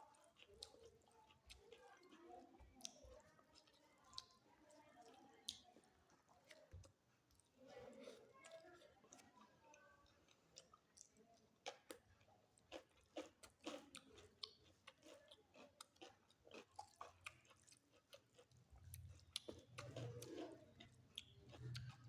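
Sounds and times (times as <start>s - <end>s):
person chewing food: 0.0s - 7.5s, 8.5s - 22.0s.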